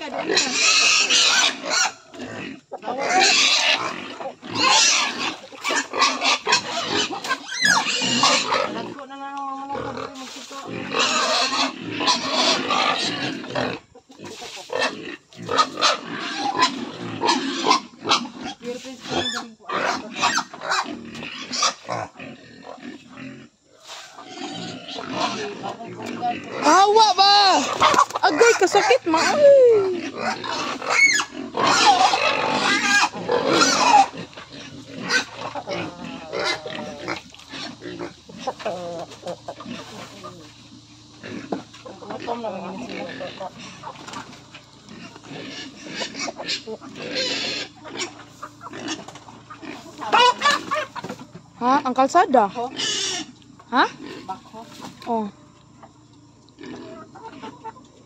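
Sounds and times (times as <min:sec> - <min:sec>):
pigs squealing: 0:00.0 - 0:55.4, 0:56.5 - 0:58.0
pigs grunting: 0:00.0 - 0:58.0.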